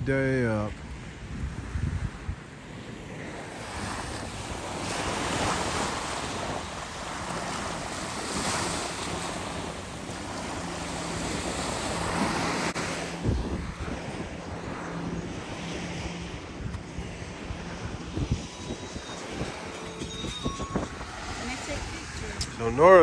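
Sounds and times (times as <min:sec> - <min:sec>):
surf washing on sand: 0:00.0 - 0:23.0
wind buffeting microphone: 0:00.0 - 0:23.0
faint distant engine hum: 0:00.3 - 0:23.0.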